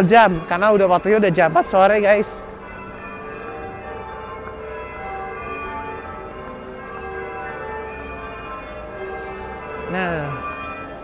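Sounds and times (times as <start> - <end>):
clock bells ringing: 0.0 - 11.0.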